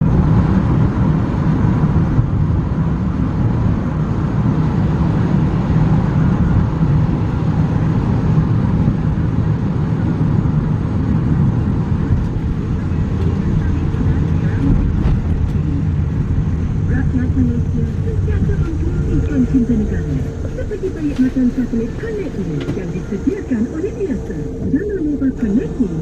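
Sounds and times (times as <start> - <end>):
car interior road and engine noise: 0.0 - 26.0.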